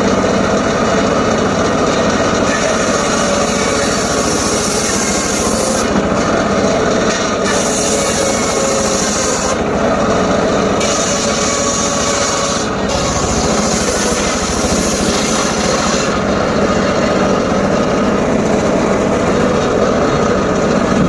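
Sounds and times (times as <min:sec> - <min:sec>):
circular saw cutting wood: 0:00.0 - 0:21.0.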